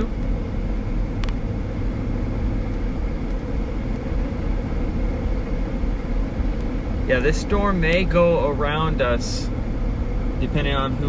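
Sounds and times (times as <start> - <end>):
road and engine noise in car: 0.0 - 11.0.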